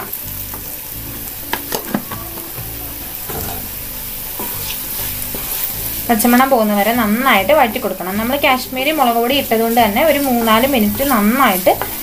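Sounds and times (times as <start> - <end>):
vegetables sizzling in oil: 0.0 - 12.0
spatula scraping pan: 1.4 - 12.0.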